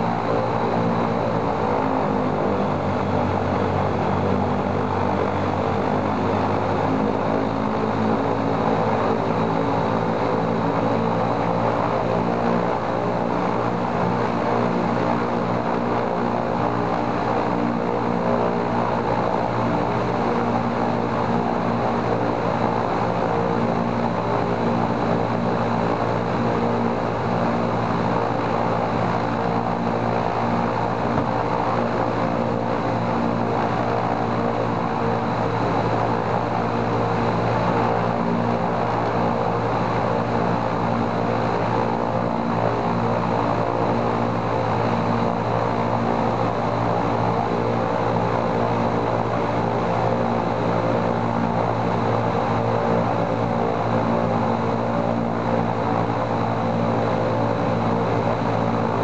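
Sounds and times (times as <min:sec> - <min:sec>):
radial aircraft engine running: 0:00.0 - 0:59.0.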